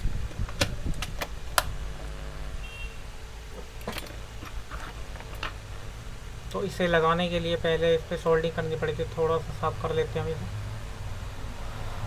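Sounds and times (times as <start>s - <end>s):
overhead fan hum: 0.0s - 12.0s.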